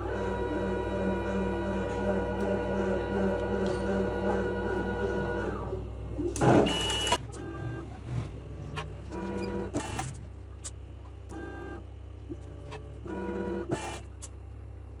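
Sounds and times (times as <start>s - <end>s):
motor whining: 0.0s - 14.3s
steady low hum: 0.0s - 15.0s.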